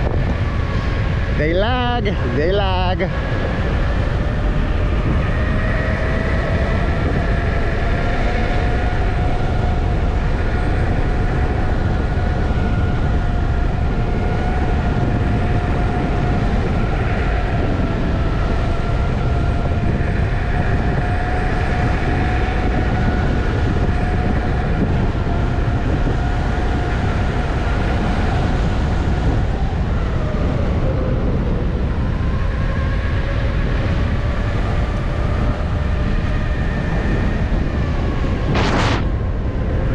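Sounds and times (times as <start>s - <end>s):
electric hub motor whining: 0.0s - 39.9s
wind noise on microphone: 0.0s - 39.9s.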